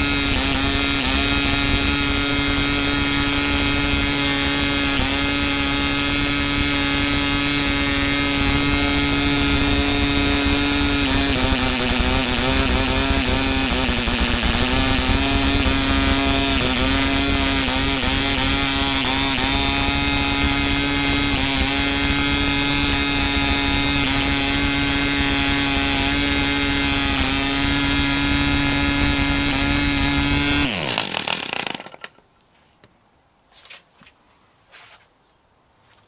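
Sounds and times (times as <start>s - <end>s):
model engine running: 0.0s - 32.2s.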